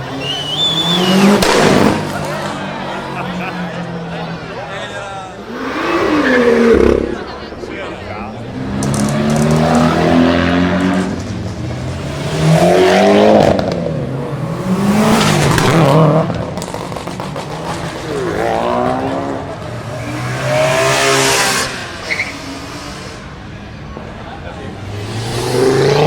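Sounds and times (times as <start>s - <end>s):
car engines revving and accelerating: 0.0s - 26.0s.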